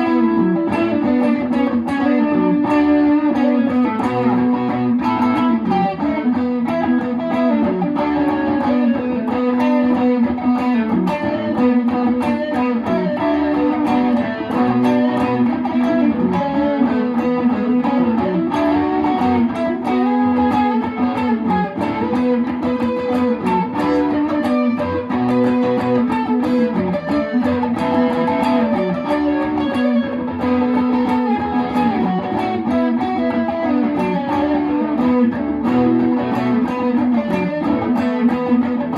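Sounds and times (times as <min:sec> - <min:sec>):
electric guitar melody: 0:00.0 - 0:38.9.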